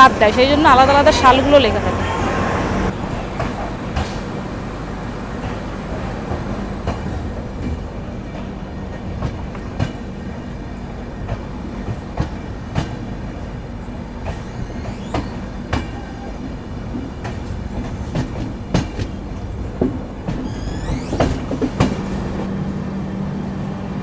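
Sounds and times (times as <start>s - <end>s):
train rumbling: 0.0s - 24.0s
train wheels clacking on rails: 2.8s - 23.0s.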